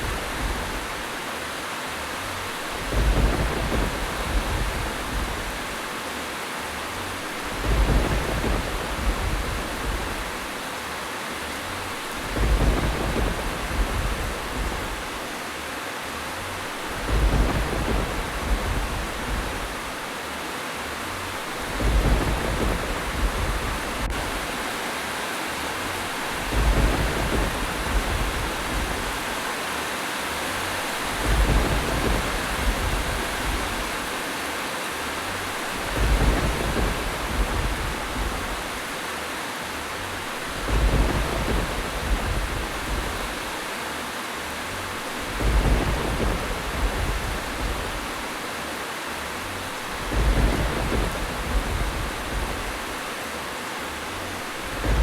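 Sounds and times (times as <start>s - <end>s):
low thunder rumble: 0.0s - 1.2s, 2.2s - 6.0s, 6.8s - 10.7s, 11.6s - 15.4s, 16.3s - 20.2s, 21.0s - 24.8s, 25.8s - 29.5s, 30.5s - 34.2s, 35.1s - 39.1s, 39.9s - 43.8s, 44.5s - 53.2s, 54.0s - 55.0s
rain hiss: 0.0s - 55.0s.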